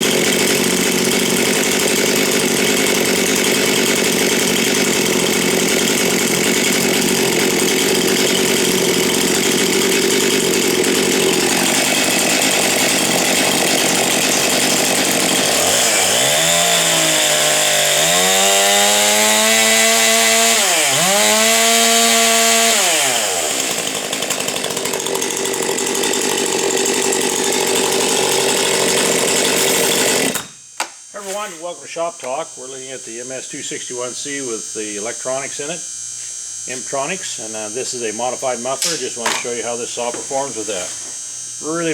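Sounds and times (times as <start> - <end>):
chainsaw cutting wood: 0.0 - 31.7, 32.3 - 41.9.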